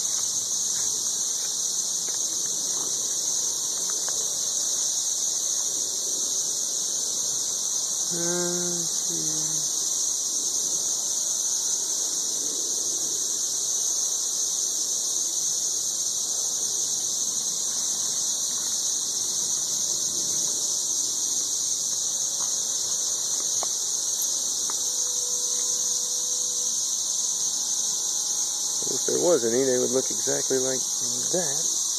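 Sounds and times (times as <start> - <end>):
cicadas droning: 0.0 - 31.9.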